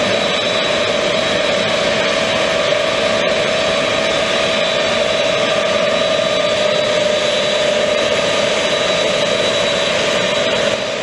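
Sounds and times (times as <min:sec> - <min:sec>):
high jet engine whine: 0:00.0 - 0:11.0
jet engines roaring: 0:00.0 - 0:11.0.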